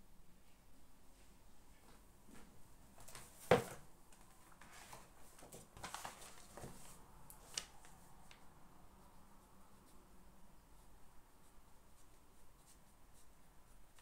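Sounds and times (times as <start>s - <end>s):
soft rustling: 0.4s - 14.0s.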